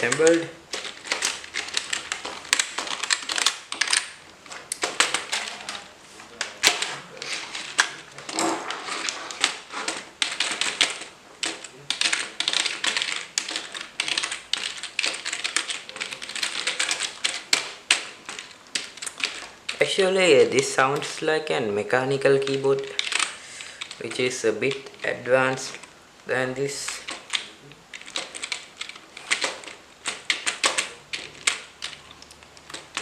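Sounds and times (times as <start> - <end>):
rapid typing on keyboard: 0.0 - 25.9, 26.6 - 33.0.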